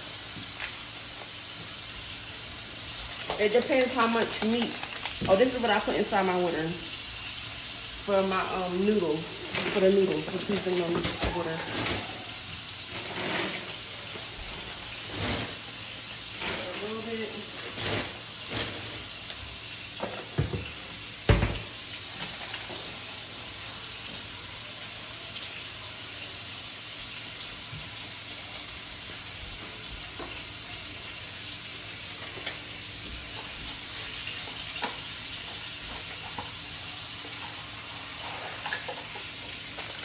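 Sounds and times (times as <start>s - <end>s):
meat sizzling in skillet: 0.0s - 40.0s.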